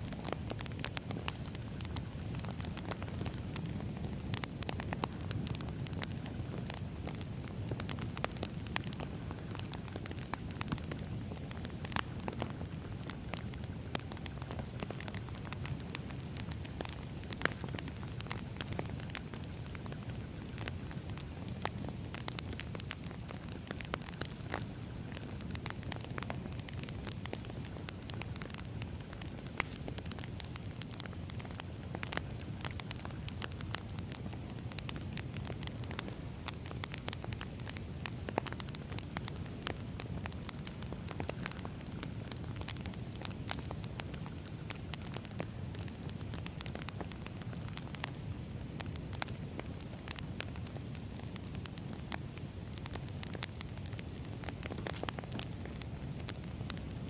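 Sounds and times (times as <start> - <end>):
fire crackling and popping: 0.0 - 57.0
wood fire flames rumbling: 0.0 - 57.0.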